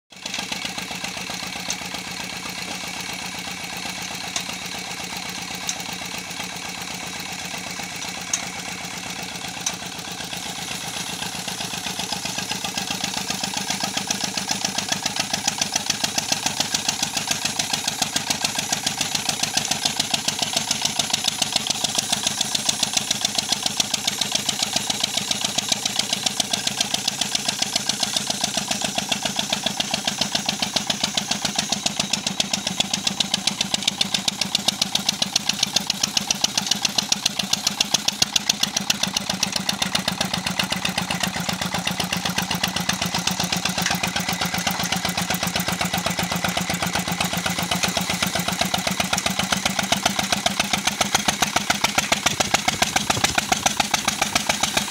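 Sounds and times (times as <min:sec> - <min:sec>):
diesel engine chugging: 0:00.1 - 0:54.9.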